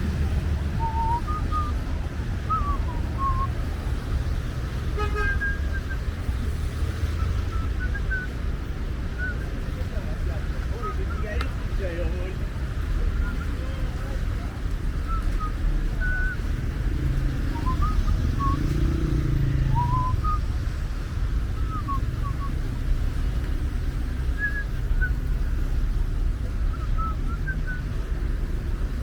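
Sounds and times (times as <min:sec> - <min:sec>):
low rumble of street traffic: 0:00.0 - 0:29.0.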